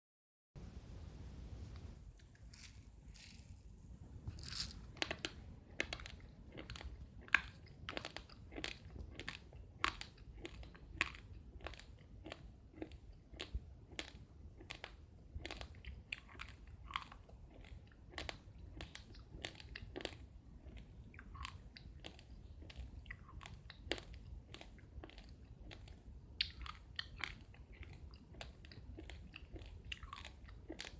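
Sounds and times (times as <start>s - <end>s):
person chewing raw rice: 4.3s - 30.9s.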